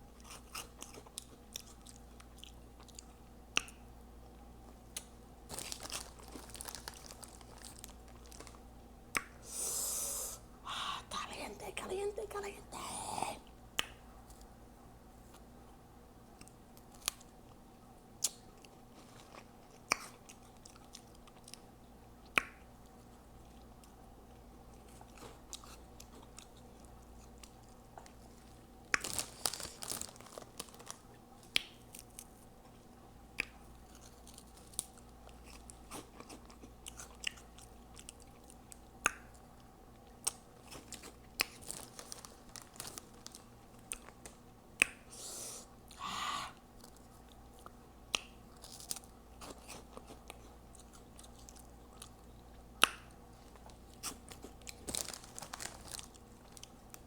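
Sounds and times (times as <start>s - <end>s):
chewing crunchy snacks: 0.1s - 9.4s, 16.3s - 45.0s, 45.8s - 57.0s.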